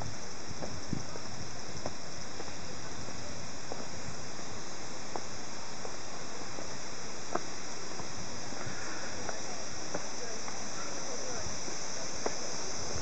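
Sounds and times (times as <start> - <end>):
footsteps on stone steps: 0.0 - 13.0
forest ambience hiss: 0.0 - 13.0.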